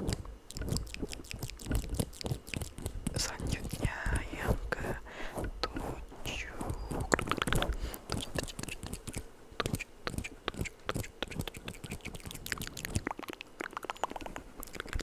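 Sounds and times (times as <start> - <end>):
wet mouth clicks and smacks: 0.0 - 4.3, 7.1 - 15.0.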